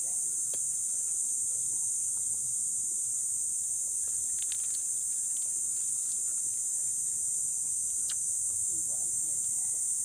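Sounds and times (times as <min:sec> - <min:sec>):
insect chorus droning: 0:00.0 - 0:10.0.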